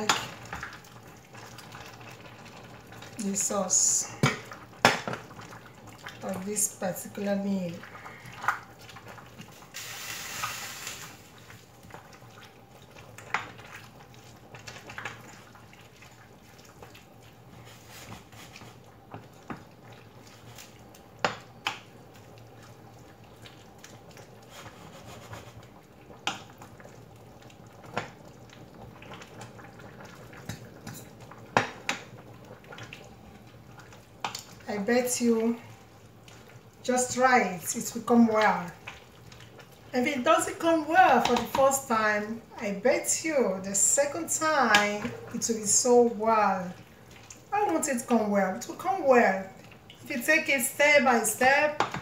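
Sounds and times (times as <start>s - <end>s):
wooden spoon stirring in pot: 0.0s - 52.0s.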